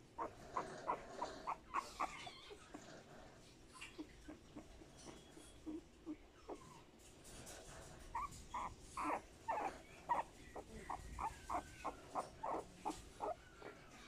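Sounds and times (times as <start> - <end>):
puppy whimpering: 0.0 - 14.0.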